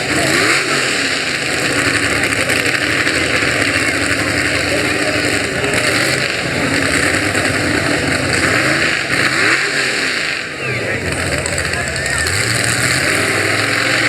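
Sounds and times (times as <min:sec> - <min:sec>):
pickup truck engine at high revs: 0:00.0 - 0:14.0.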